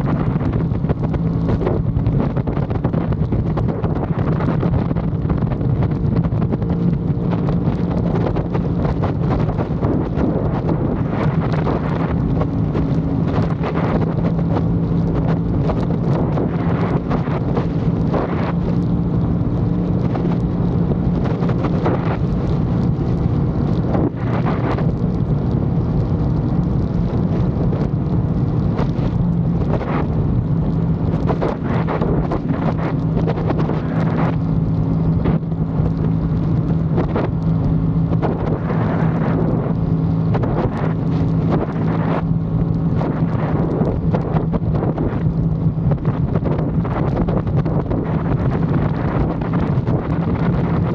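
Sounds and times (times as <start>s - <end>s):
motorcycle engine running: 0.0s - 50.9s
wind buffeting microphone: 0.0s - 50.9s.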